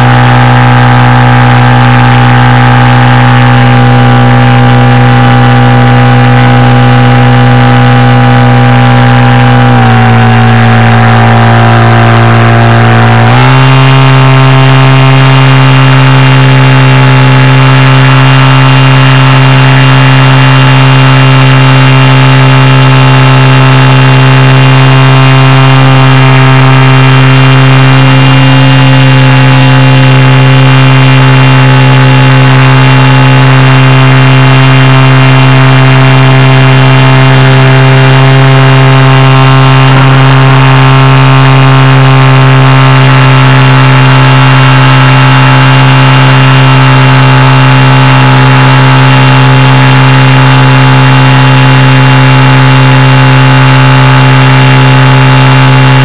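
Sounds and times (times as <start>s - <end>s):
floatplane engine droning: 0.0s - 56.0s.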